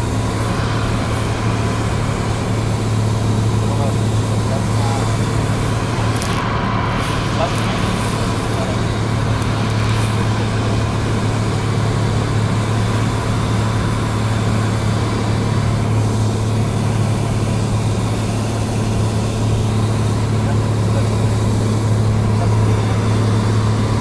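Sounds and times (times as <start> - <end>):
propeller plane cabin drone: 0.0 - 24.0.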